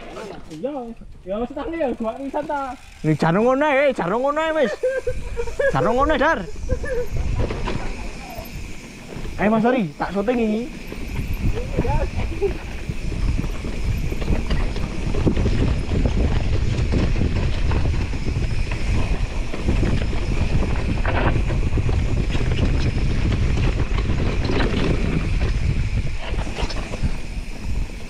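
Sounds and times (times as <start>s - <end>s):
bike clicks and knocks: 0.0s - 3.9s, 7.0s - 28.0s
wind buffeting microphone: 2.8s - 28.0s.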